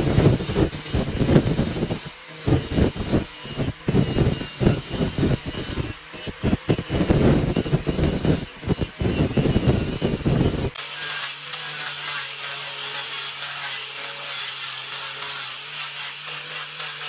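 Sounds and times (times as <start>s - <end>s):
hand tool rubbing and scraping: 0.0s - 17.0s.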